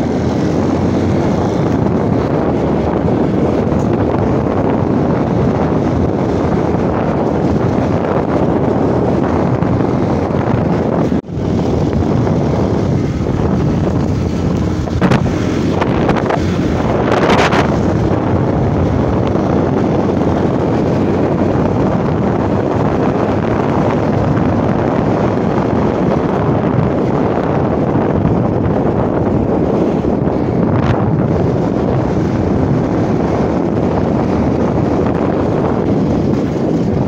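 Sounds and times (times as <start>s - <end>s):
motorcycle engine: 0.0s - 37.0s
tyres on gravel road: 0.0s - 37.0s
wind buffeting microphone: 0.0s - 37.0s.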